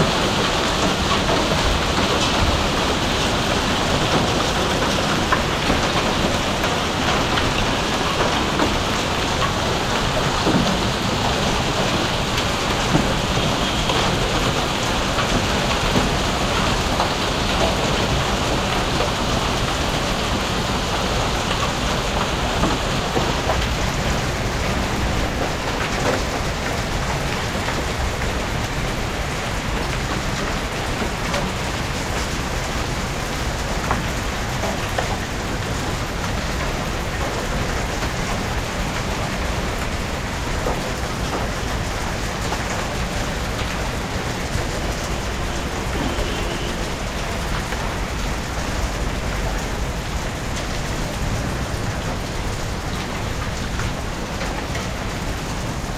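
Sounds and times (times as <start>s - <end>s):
heavy rain on hard surfaces: 0.0s - 55.9s.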